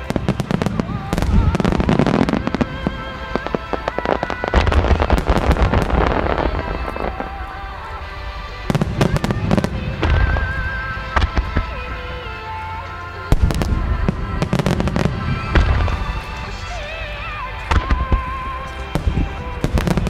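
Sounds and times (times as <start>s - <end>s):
fireworks bursting: 0.0s - 20.0s
music with wavering melody: 0.0s - 20.0s.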